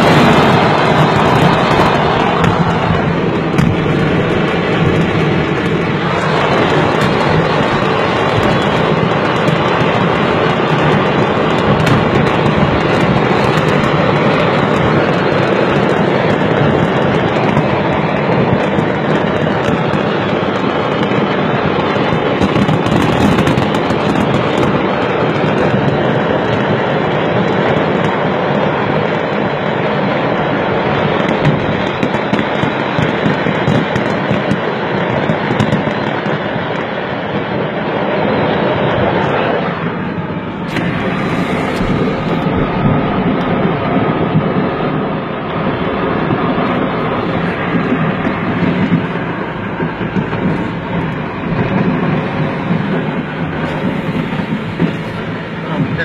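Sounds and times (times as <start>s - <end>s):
car road and wind noise: 0.0s - 56.0s
fireworks crackling and banging: 0.0s - 56.0s.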